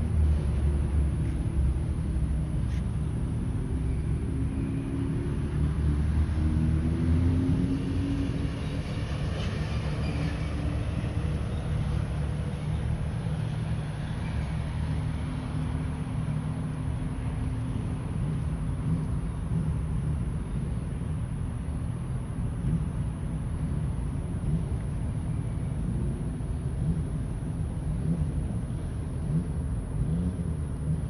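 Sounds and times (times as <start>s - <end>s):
motorcycle engines humming: 0.0s - 31.0s.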